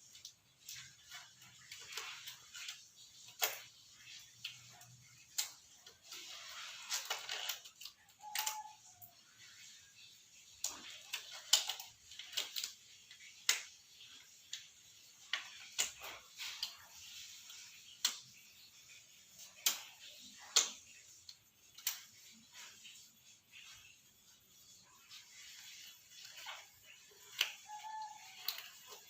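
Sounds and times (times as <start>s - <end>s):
objects clicking and tapping: 0.0s - 9.6s, 10.3s - 23.9s, 24.6s - 29.0s.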